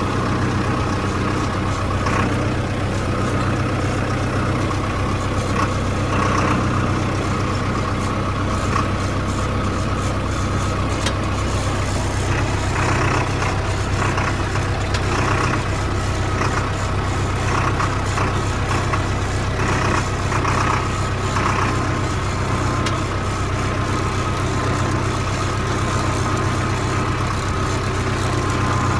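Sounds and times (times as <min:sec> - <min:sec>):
engine rattling: 0:00.0 - 0:28.9
tractor diesel engine running: 0:00.0 - 0:28.9.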